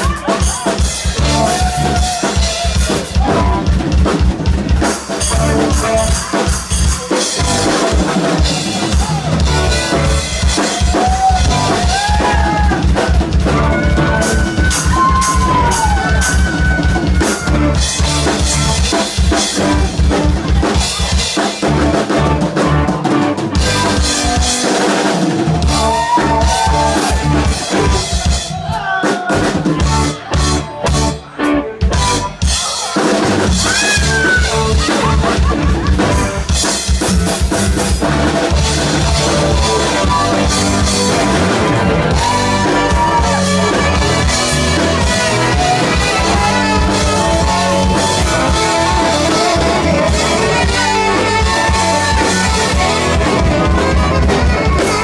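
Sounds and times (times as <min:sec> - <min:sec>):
drums beating steadily: 0:00.0 - 0:55.0
live rock band playing: 0:00.0 - 0:55.0.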